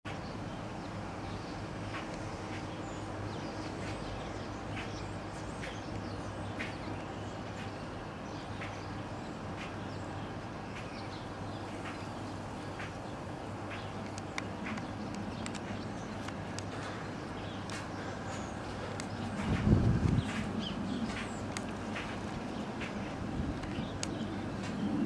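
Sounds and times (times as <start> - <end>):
low hum and hiss: 0.1 - 25.0.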